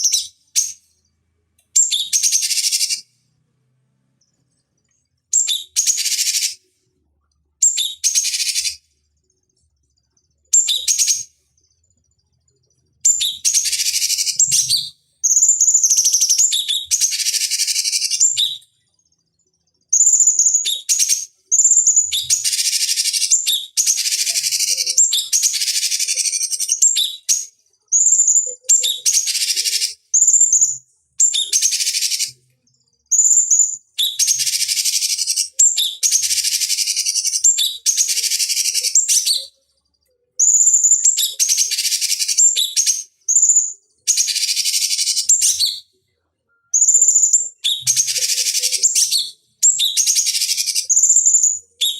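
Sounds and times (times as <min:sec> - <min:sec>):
bird singing chirping song: 0:00.0 - 0:03.2, 0:04.1 - 0:06.7, 0:07.3 - 0:51.9.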